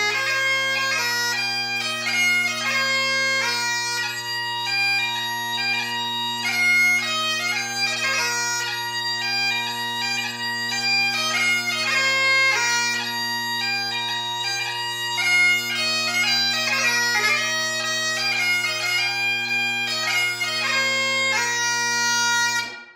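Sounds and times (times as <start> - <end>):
bagpipe playing reel: 0.0 - 22.9.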